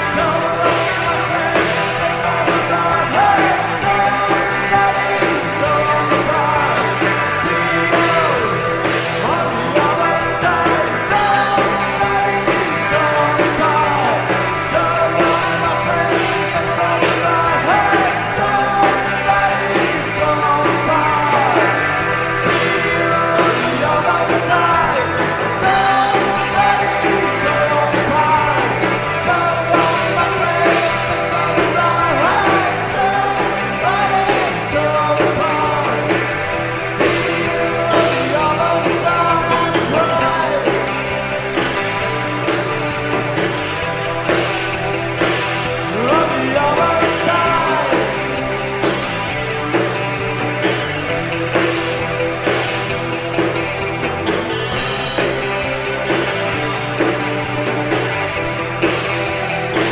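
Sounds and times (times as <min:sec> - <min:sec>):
rock song with singing: 0:00.0 - 0:59.9.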